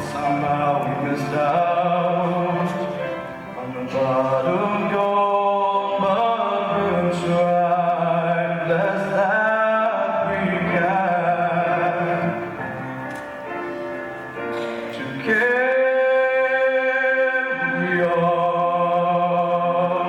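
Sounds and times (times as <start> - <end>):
music with long held notes: 0.0 - 20.0.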